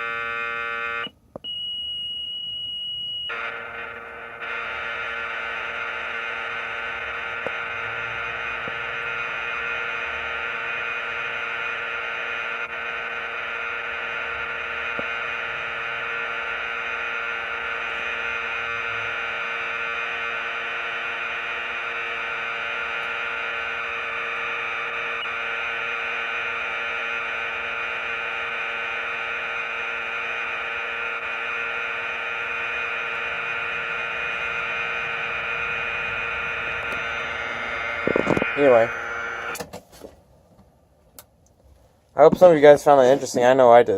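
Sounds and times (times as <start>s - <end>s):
steady data tape tone: 0.0s - 39.6s
tape hiss: 0.0s - 43.9s.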